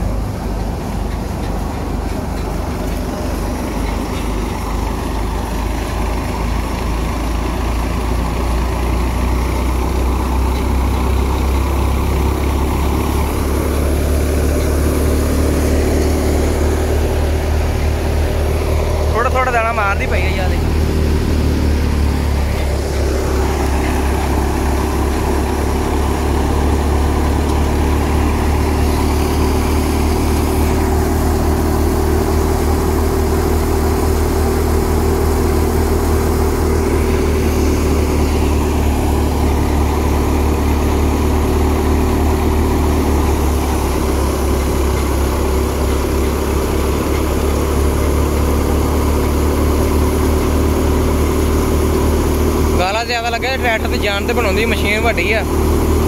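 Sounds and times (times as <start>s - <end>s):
grain thresher running: 0.0s - 56.0s.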